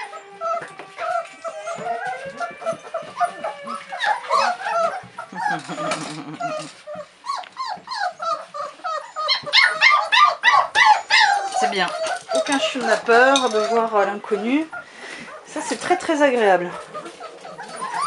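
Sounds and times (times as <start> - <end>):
puppies whining and yelping: 0.0 - 18.0.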